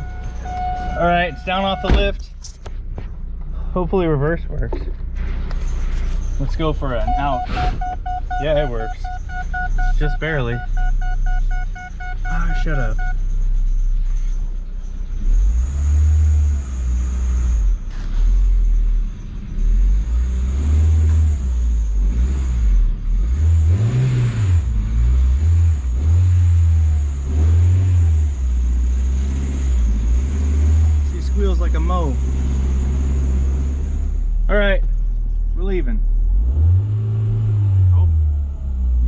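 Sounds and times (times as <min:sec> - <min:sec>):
car engine rumbling: 0:00.0 - 0:39.0.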